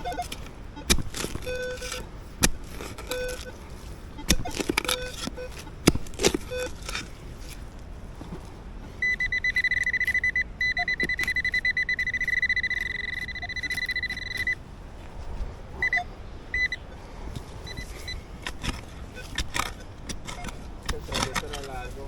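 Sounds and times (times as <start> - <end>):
metal detector beeping: 0.0 - 2.1, 2.7 - 7.0, 9.0 - 14.6, 15.8 - 22.0.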